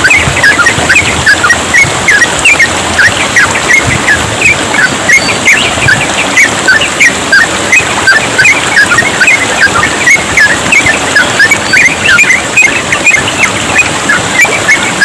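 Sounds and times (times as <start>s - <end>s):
birds chirping: 0.0s - 15.0s
water trickling: 0.0s - 15.0s.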